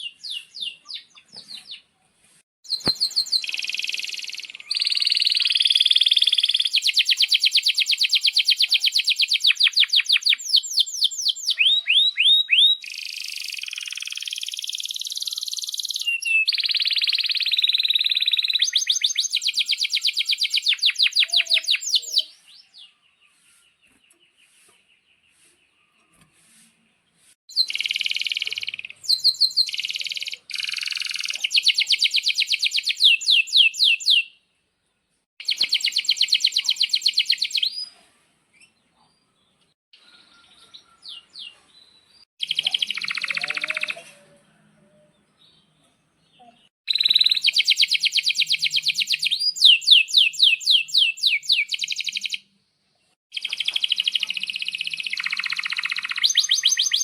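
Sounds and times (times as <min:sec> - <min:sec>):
canary singing trills and chirps: 0:02.7 - 0:23.1, 0:27.5 - 0:34.4, 0:35.4 - 0:38.0, 0:40.3 - 0:52.5, 0:53.3 - 0:57.0.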